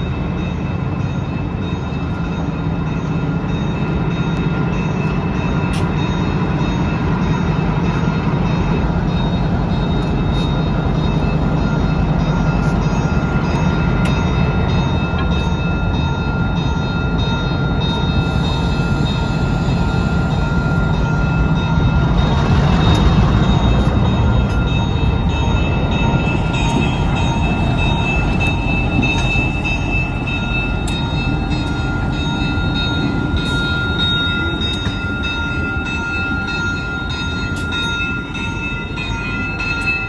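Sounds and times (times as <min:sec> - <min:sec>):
locomotive engine rumble: 0:02.1 - 0:40.0.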